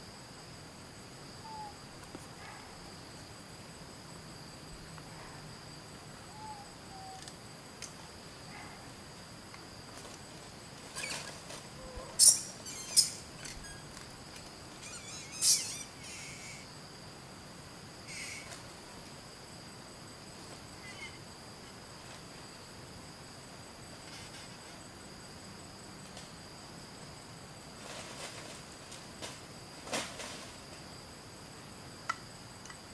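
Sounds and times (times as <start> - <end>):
high-pitched insect chorus: 0.0 - 32.9.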